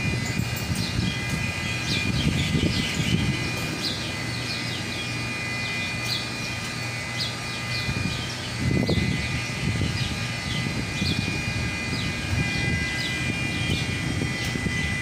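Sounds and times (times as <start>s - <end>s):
birds chirping: 0.0s - 15.0s
low machine hum: 0.0s - 15.0s.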